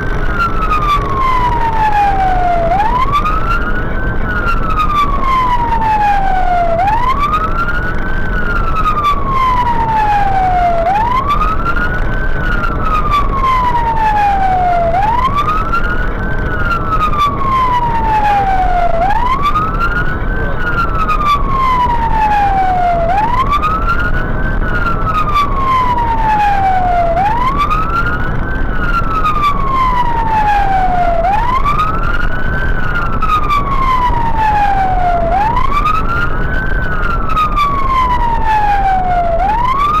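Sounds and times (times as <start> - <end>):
fire engine siren wailing: 0.0 - 40.0
road noise: 0.0 - 40.0
truck engine: 0.0 - 40.0.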